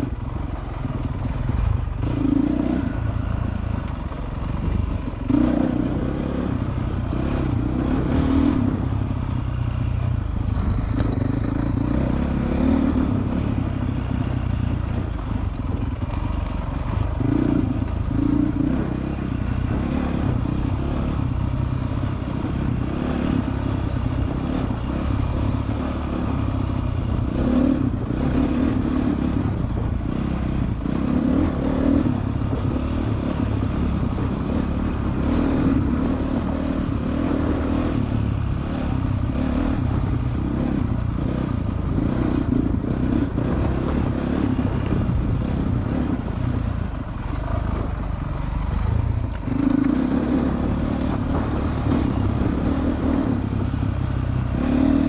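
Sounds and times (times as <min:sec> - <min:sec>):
dirt bike engine revving: 0:00.8 - 0:03.8, 0:04.4 - 0:09.4, 0:10.6 - 0:55.0.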